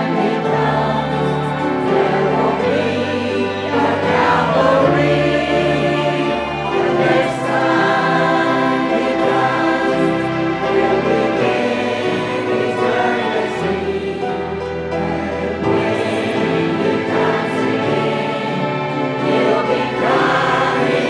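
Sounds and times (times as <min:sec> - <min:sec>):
choir singing in harmony: 0:00.0 - 0:21.0.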